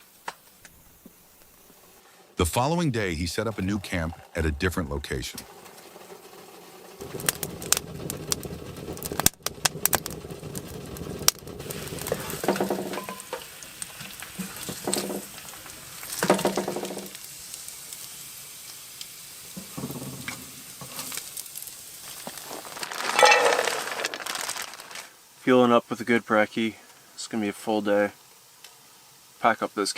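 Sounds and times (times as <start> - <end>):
food sizzling in a frying pan: 5.1 - 29.9.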